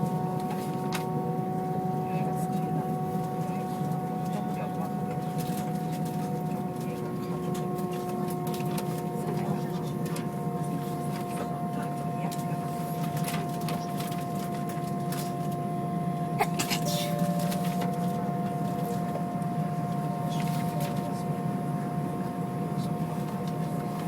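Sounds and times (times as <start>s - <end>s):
airplane cabin engine hum: 0.0s - 24.0s.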